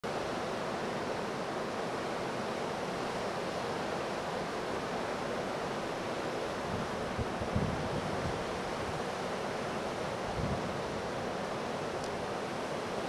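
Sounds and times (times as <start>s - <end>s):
ocean surf rushing: 0.1s - 13.0s.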